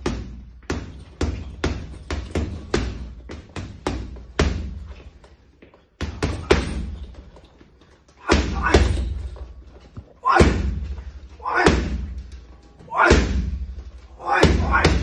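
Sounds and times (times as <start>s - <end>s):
gloves punching heavy bag: 0.0s - 5.2s, 6.0s - 7.4s, 8.2s - 12.4s, 13.0s - 15.0s.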